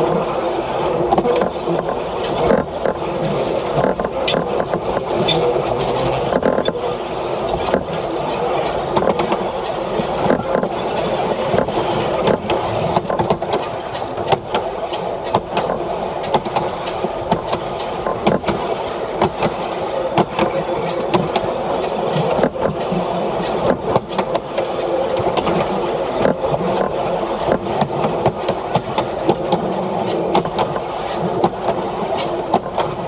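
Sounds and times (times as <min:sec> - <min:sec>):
railcar rumbling on track: 0:00.0 - 0:33.0.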